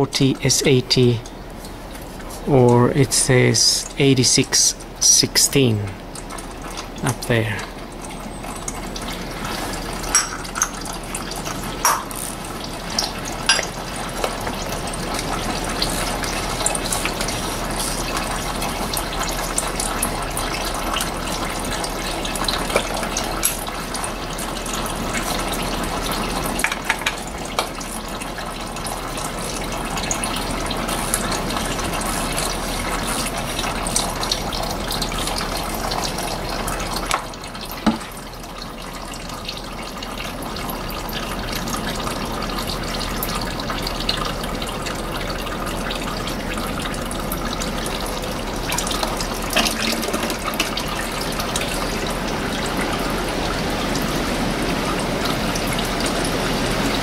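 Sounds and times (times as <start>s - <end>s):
oil pouring into a pan: 7.8s - 56.8s.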